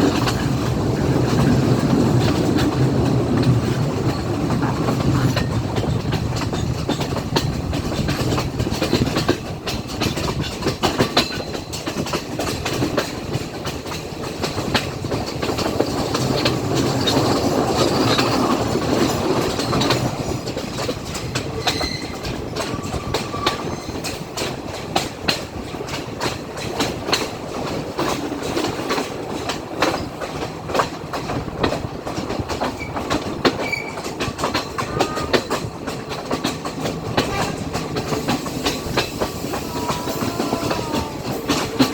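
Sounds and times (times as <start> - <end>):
train rumbling on track: 0.0 - 41.9
wheels clicking over rail joints: 0.0 - 41.9.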